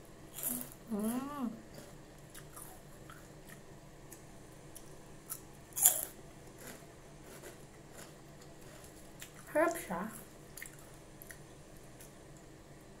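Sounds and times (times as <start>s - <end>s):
chewing crunchy pork rinds: 0.3s - 12.6s.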